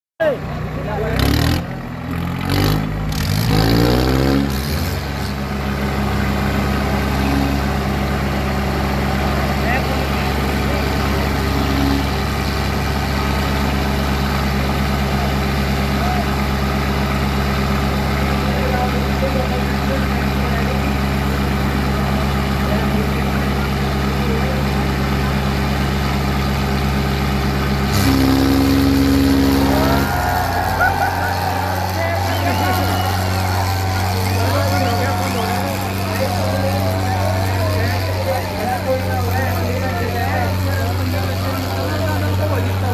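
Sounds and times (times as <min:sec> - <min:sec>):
tractor engine revving: 0:00.2 - 0:42.9.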